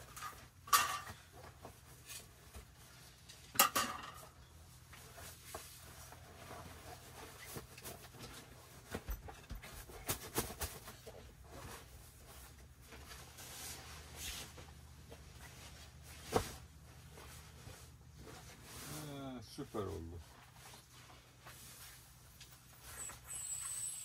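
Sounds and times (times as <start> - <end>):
knocks and rustles of handling: 0.0 - 19.1, 19.8 - 23.2.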